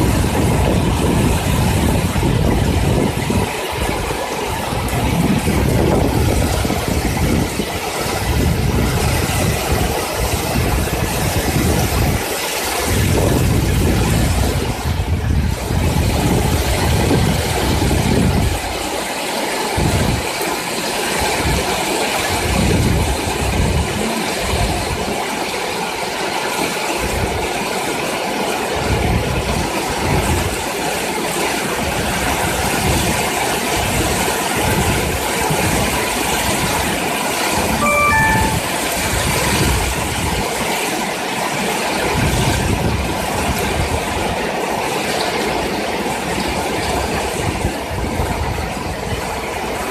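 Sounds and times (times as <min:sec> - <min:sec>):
storm wind buffeting microphone: 0:00.0 - 0:37.8, 0:41.8 - 0:49.9.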